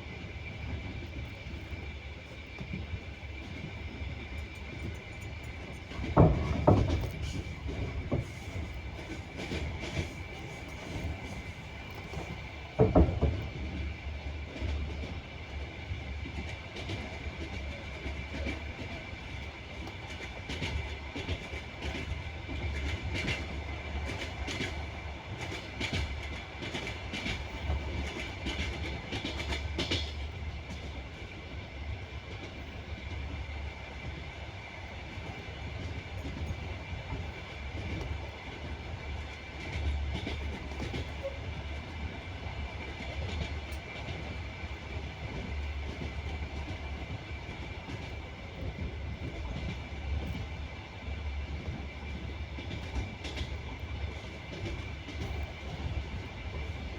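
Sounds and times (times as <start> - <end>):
train rumble: 0.0 - 56.9
train wheels clattering: 2.6 - 13.9, 16.2 - 31.6, 35.1 - 56.9.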